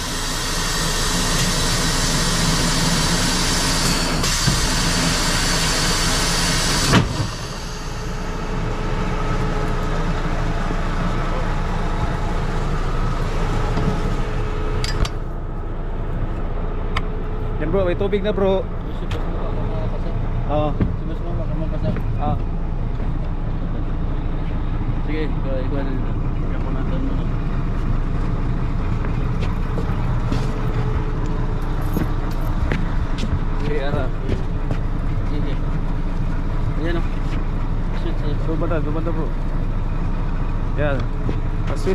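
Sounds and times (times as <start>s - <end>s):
truck engine and pump running: 0.0s - 41.9s.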